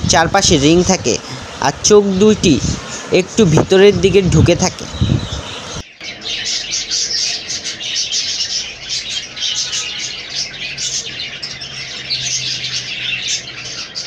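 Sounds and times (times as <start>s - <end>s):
budgerigars chirping and chattering: 0.1s - 14.0s.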